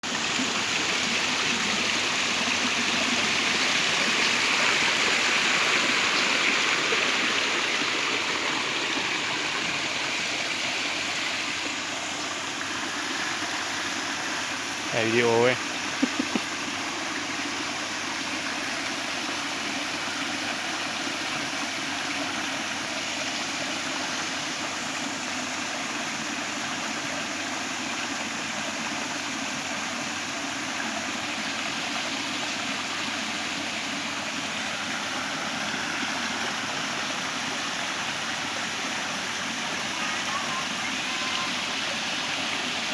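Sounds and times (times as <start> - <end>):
waterfall splashing over rock: 0.0 - 42.9.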